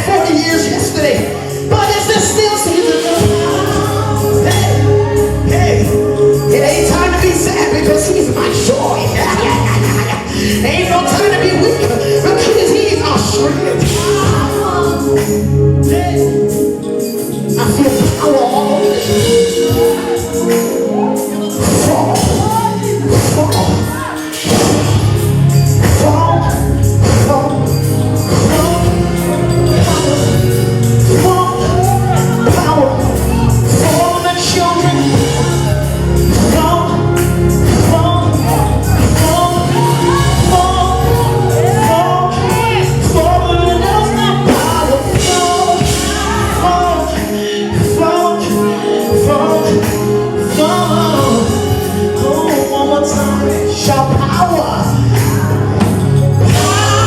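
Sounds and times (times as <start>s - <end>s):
band with bass and beat: 0.0s - 57.0s
voices singing gospel: 0.0s - 57.0s.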